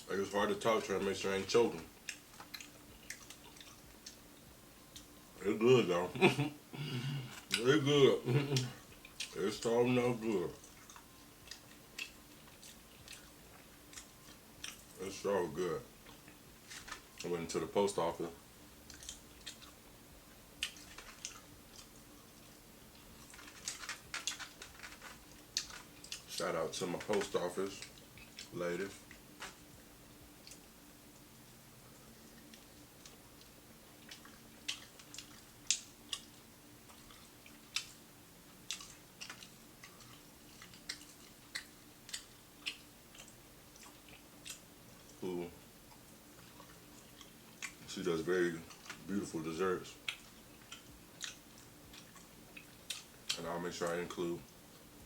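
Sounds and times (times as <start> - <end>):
chewing crunchy fried food: 0.0 - 5.4, 6.4 - 55.0
faint low hum: 0.0 - 55.0.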